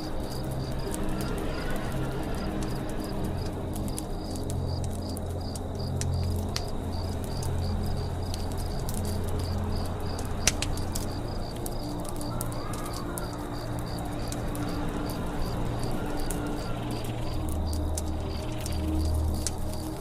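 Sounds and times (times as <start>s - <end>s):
campfire crackling and popping: 0.0s - 20.0s
high insect chirp: 0.0s - 20.0s.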